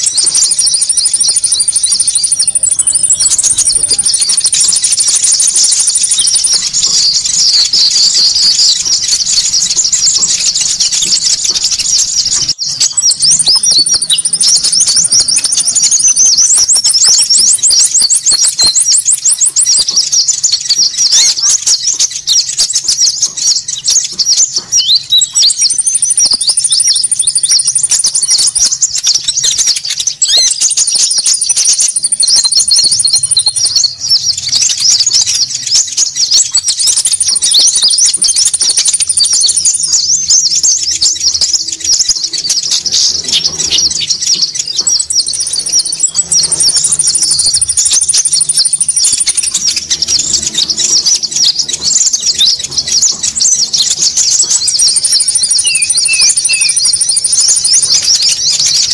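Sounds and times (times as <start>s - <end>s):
birds chattering calls: 0.0s - 58.9s
thin high bird trills: 0.0s - 58.9s.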